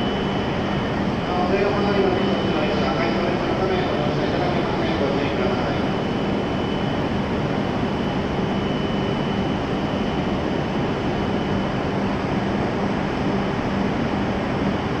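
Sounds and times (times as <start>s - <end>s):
train equipment hum and whir: 0.0s - 15.0s.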